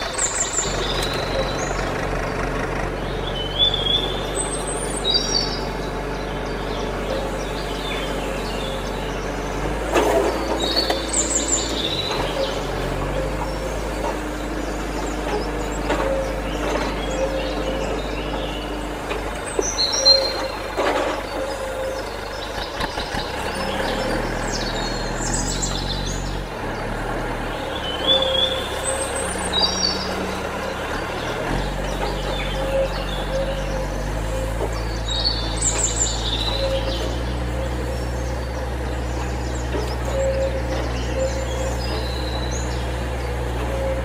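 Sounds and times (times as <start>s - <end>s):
low mechanical hum: 0.0s - 44.0s
small birds chirping: 0.0s - 44.0s.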